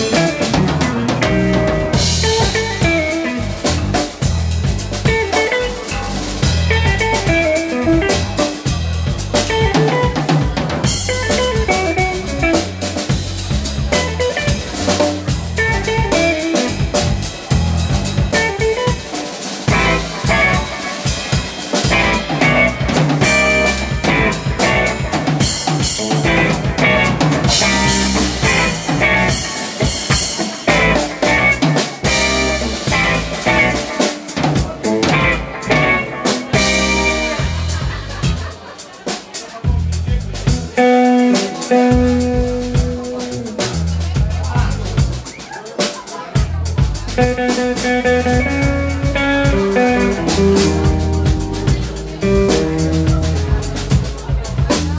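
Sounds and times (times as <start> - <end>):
electric bass: 0.0 - 38.5, 39.7 - 45.3, 46.4 - 54.9
electric guitar: 0.0 - 39.0, 40.4 - 45.1, 46.7 - 54.9
drum kit playing: 0.0 - 54.9.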